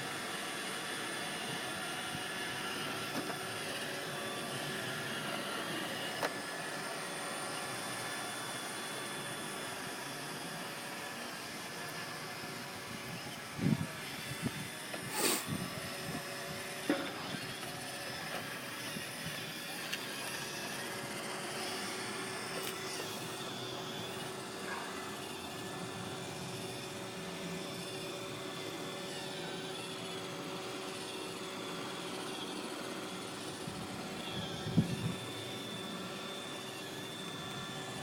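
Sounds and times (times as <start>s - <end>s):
robot vacuum motor humming: 0.0s - 38.0s.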